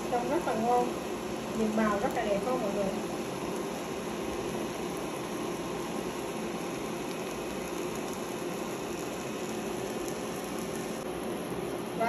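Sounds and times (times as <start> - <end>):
eggs frying in a pan: 0.0 - 12.0.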